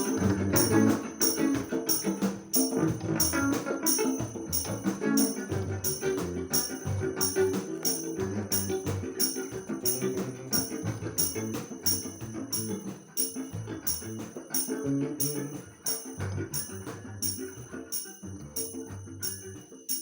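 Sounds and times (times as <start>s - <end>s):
jingling percussion beat: 0.0s - 20.0s.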